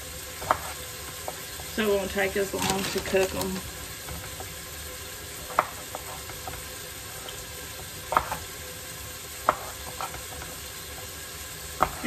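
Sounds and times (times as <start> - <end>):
beef sizzling in a pot: 0.0 - 12.0.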